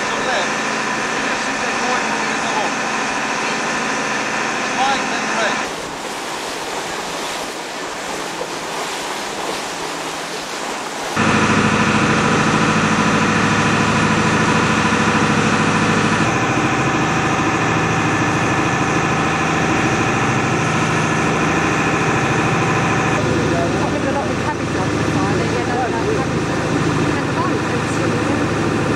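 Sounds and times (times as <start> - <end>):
boat engine running: 0.0 - 28.9
water rushing along hull: 0.0 - 28.9.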